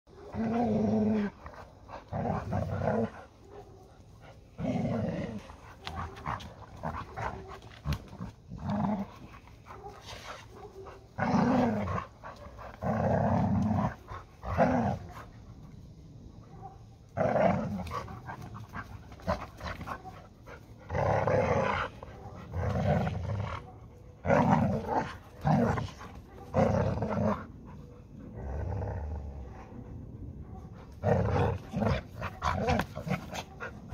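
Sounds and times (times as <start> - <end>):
dogs growling in play: 0.1 - 33.9.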